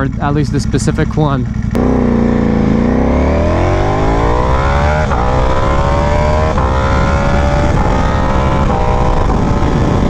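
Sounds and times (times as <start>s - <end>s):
motorcycle engine accelerating: 0.0s - 10.0s
quick gear upshifts: 0.0s - 10.0s.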